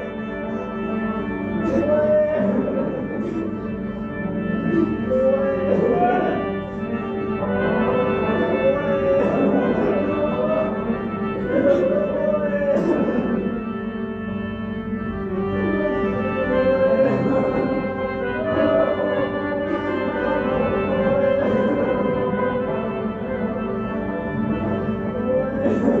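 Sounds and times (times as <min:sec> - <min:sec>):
clarinet folk melody: 0:00.0 - 0:26.0
steady drone: 0:00.0 - 0:26.0.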